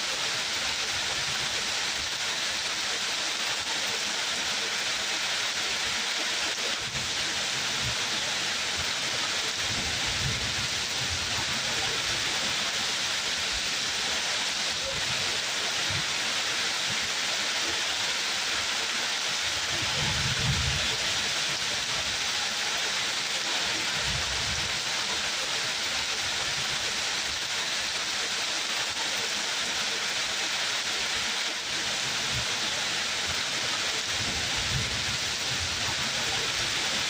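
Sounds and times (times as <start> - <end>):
dense rain falling: 0.0 - 37.0.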